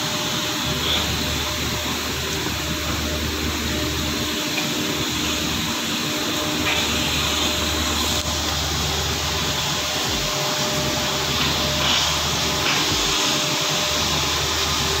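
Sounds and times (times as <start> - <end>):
industrial equipment hiss: 0.0 - 15.0.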